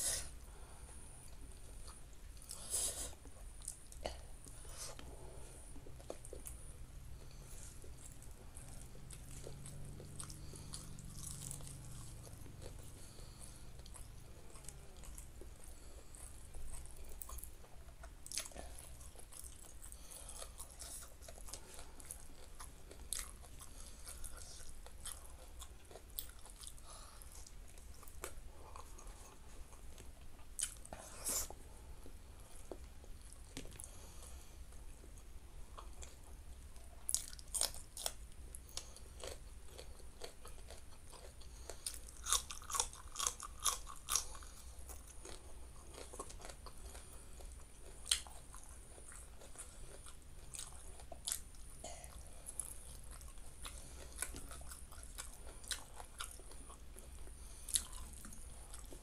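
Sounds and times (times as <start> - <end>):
person chewing food: 0.1 - 59.0.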